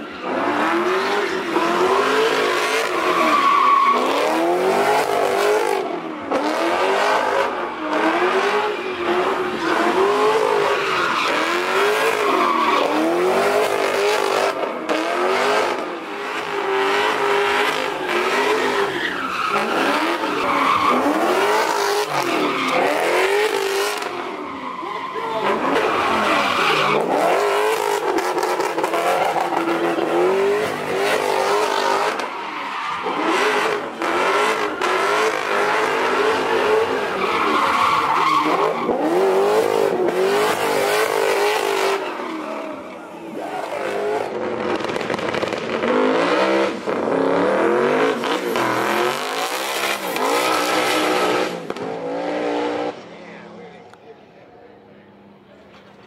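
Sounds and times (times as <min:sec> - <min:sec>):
car engine revving: 0:00.0 - 0:53.0
tires screeching: 0:00.0 - 0:53.9.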